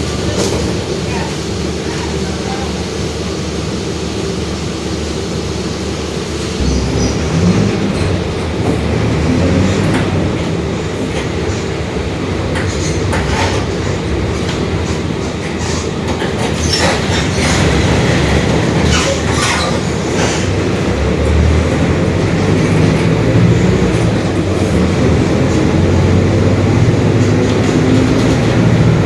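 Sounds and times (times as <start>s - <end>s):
bus engine rumble: 0.0s - 29.0s.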